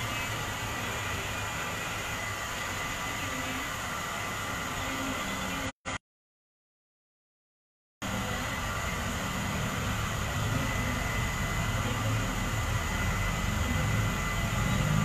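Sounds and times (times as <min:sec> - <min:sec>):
hair dryer blowing: 0:00.0 - 0:05.6, 0:08.1 - 0:15.0.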